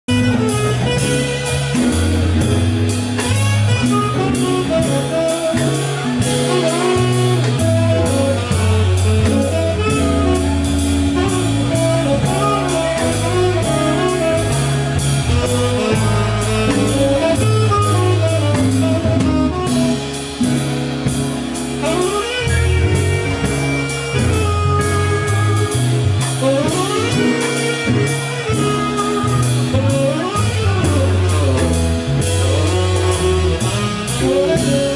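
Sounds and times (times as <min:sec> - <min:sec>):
bass line: 0:00.0 - 0:34.9
drum kit: 0:00.0 - 0:34.9
electric guitar: 0:00.0 - 0:34.9
saxophone: 0:00.0 - 0:34.9.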